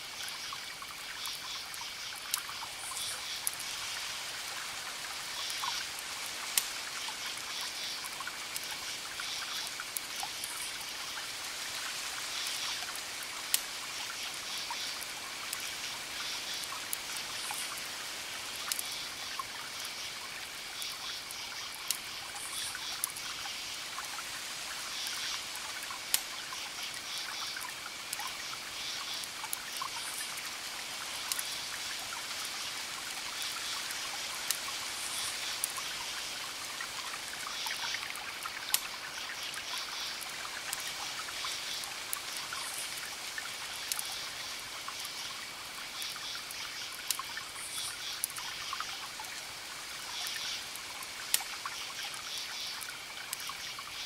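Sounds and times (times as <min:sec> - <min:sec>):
steady hiss: 0:00.0 - 0:54.0
wood fire crackling: 0:00.2 - 0:53.9.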